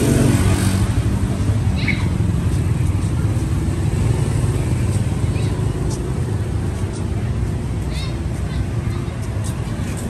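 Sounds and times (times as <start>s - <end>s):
street rumble: 0.0s - 10.0s.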